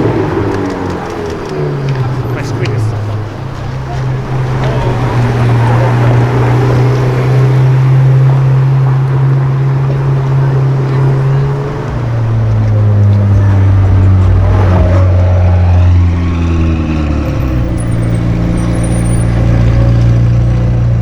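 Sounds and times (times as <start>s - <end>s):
sports car engine running: 0.0s - 21.0s.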